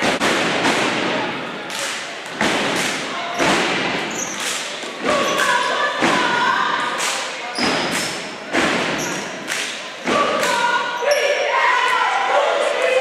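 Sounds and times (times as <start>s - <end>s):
crowd chatter: 0.0s - 13.0s.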